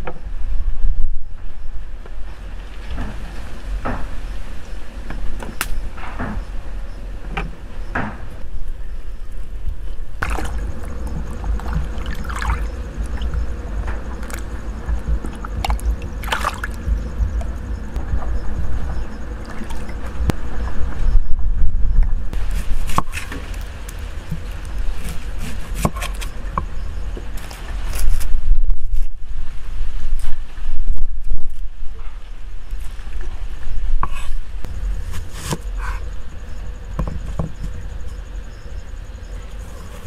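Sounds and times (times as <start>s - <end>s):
wind rumble on microphone: 0.0s - 40.0s.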